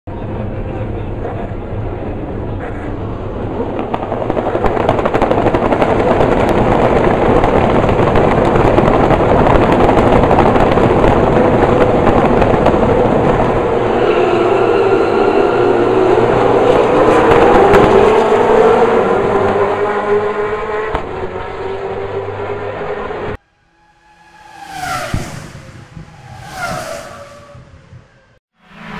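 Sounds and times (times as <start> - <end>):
race car engines with crackle: 0.1 - 28.9.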